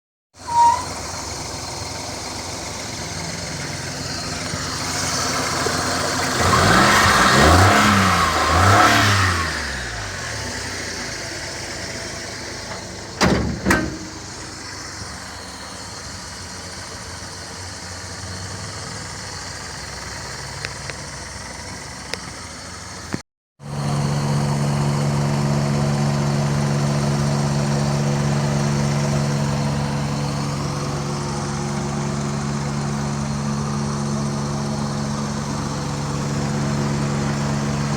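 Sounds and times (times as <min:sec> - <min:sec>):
car engine idling and revving: 0:00.4 - 0:37.9.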